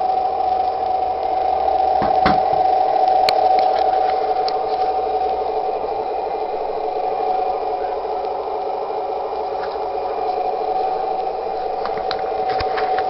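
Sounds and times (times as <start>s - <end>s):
toy motor and gearbox whining: 0.0s - 13.0s.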